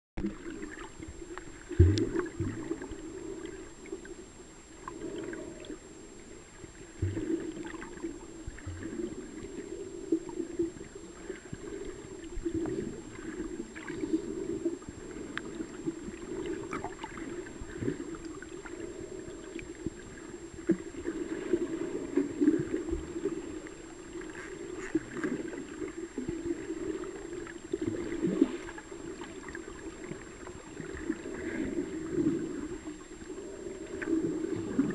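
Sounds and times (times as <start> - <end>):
faint steady high whine: 0.2 - 34.9
muffled underwater water noise: 0.2 - 34.9.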